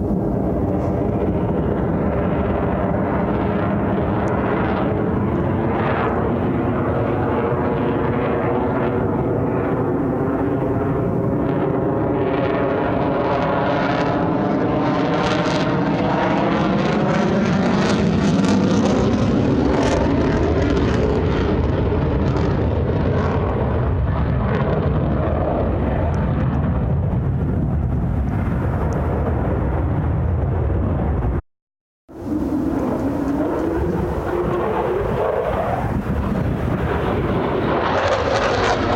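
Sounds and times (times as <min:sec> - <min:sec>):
jet fighter roaring by: 0:00.0 - 0:31.4, 0:32.1 - 0:38.9.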